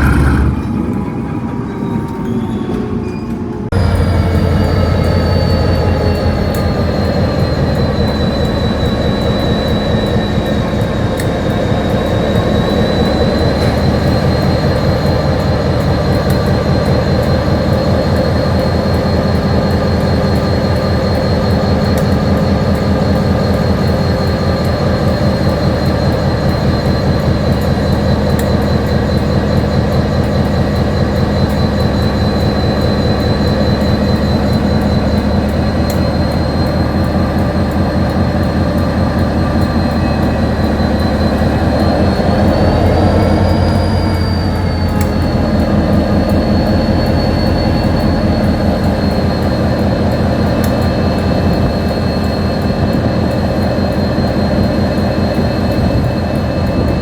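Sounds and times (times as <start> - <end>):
high whine: 0.0 - 57.0
locomotive engine throbbing: 0.0 - 57.0.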